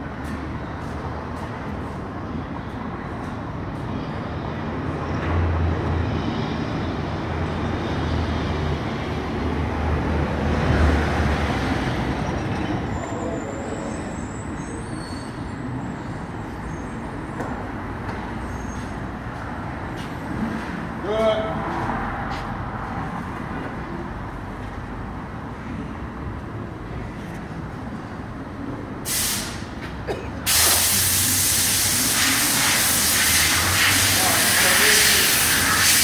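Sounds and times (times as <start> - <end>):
road traffic rumble: 0.0 - 36.0.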